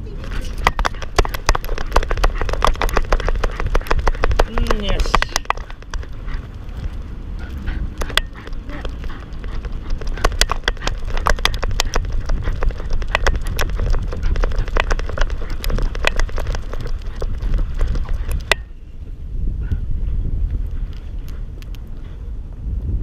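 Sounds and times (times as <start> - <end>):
wind rumble on microphone: 0.0 - 23.0
harness and leash clip clinking: 0.2 - 18.8.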